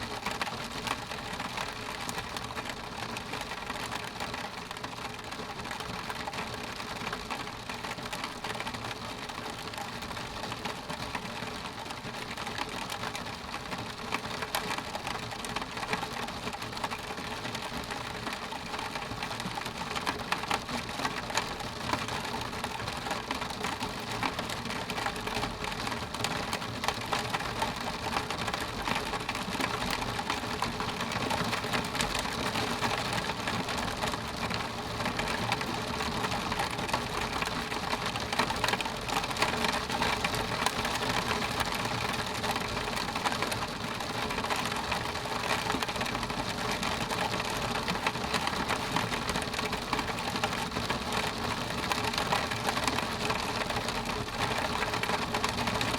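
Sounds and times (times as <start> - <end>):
rain ticking on window glass: 0.0 - 55.9.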